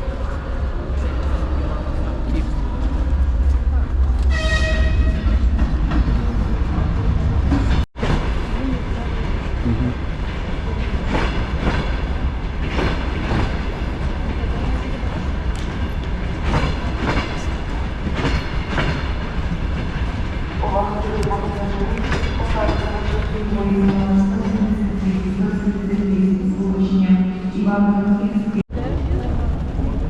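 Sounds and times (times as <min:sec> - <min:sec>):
diesel train rumbling: 0:00.0 - 0:30.0.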